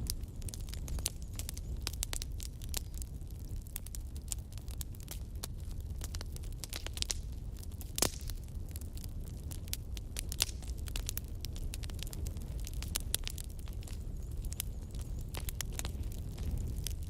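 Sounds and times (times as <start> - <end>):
low rumble of flame: 0.0 - 17.0
wood fire crackling: 0.0 - 17.0.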